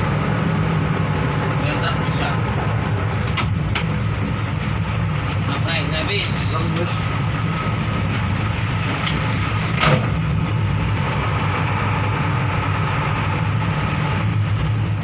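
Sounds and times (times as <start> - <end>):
bus engine droning: 0.0 - 15.0
road noise: 0.0 - 15.0.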